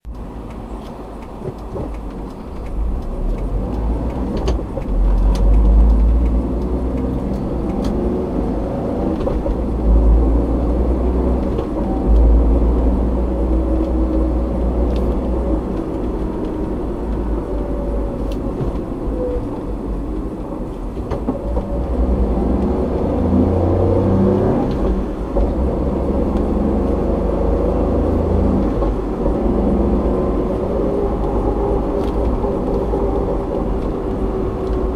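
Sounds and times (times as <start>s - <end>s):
car engine: 0.0s - 34.9s
road and tyre noise: 0.0s - 34.9s.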